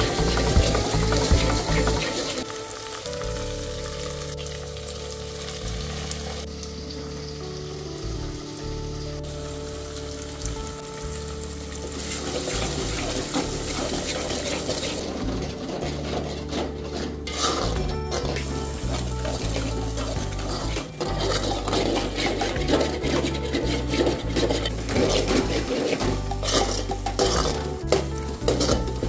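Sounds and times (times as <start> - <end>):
onions sizzling in oil: 0.0 - 29.0
soft background music: 0.0 - 29.0.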